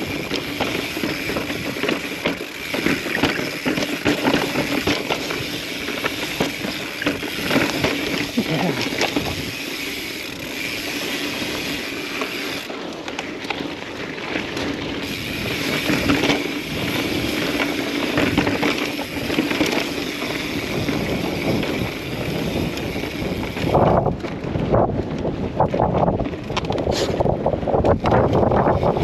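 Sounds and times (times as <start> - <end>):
bike bumps and rumbles: 0.0 - 29.0
bike tyres rattling on rock: 0.0 - 29.0.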